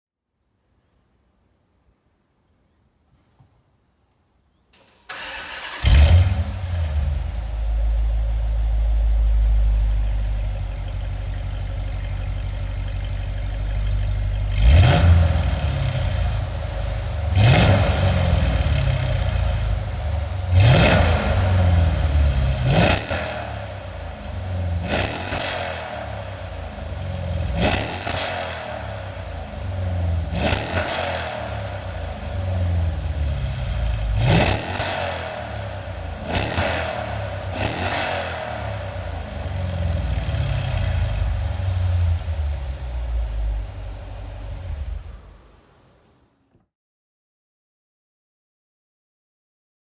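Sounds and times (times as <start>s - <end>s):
car engine idling: 4.8s - 46.5s
car engine starting: 4.8s - 46.6s
car engine revving: 5.1s - 46.2s.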